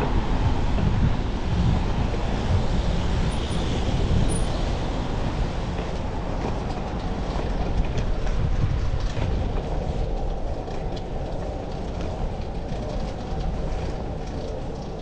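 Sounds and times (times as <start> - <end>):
bicycle road noise: 0.0 - 15.0
wind rumble: 0.0 - 15.0.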